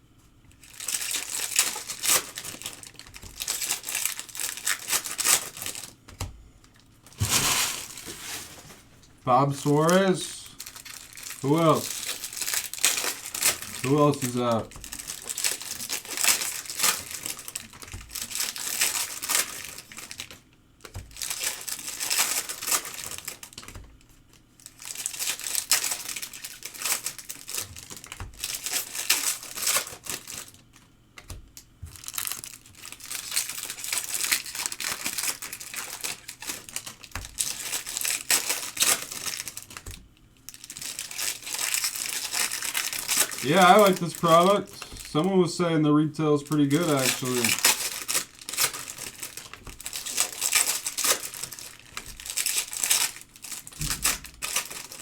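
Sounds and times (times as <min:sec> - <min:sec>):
card pack wrappers crinkling: 0:00.5 - 0:06.1, 0:06.7 - 0:55.0.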